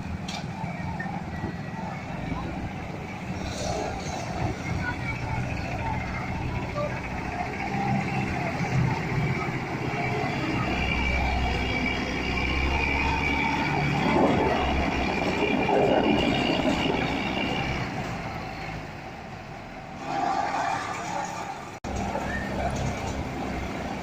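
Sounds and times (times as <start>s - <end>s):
vehicle rumbling: 0.0s - 24.0s.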